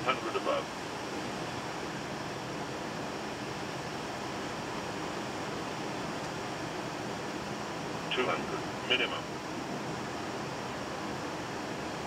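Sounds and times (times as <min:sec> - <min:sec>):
airflow and engine noise in cockpit: 0:00.0 - 0:12.0.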